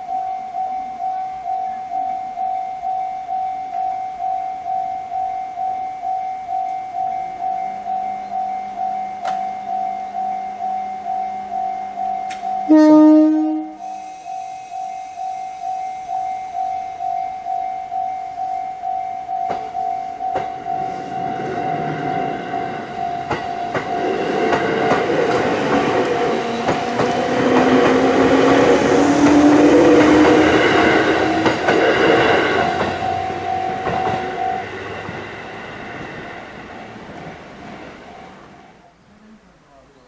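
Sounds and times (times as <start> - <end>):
rising whine: 0.0 - 38.8
level crossing alarm ringing: 0.0 - 38.9
train passing over crossing: 0.0 - 39.1.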